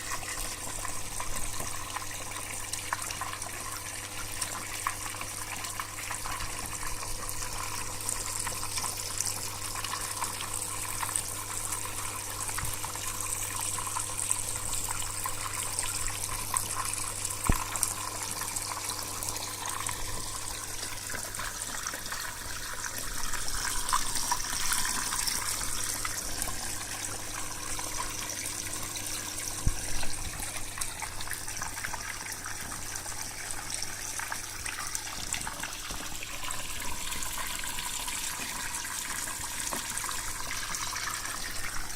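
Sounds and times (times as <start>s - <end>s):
flowing water splashing: 0.0s - 41.9s.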